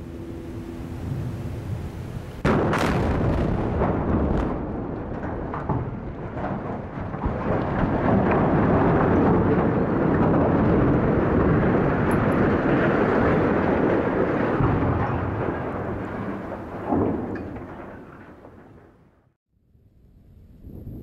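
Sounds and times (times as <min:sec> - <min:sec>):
blast furnace crashing to ground: 0:02.4 - 0:19.3.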